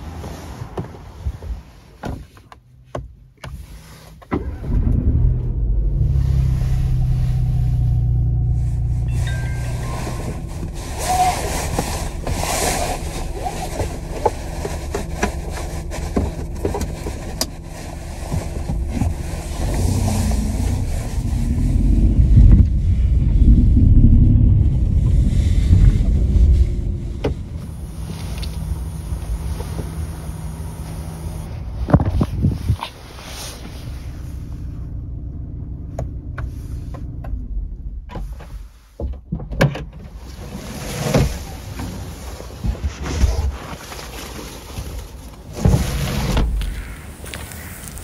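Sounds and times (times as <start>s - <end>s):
car engine from inside cabin: 0.1s - 39.4s.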